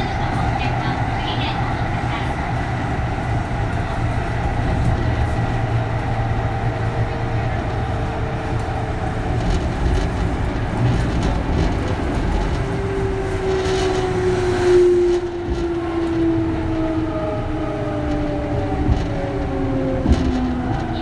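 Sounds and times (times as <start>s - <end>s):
wheels rumbling on track: 0.0s - 21.0s.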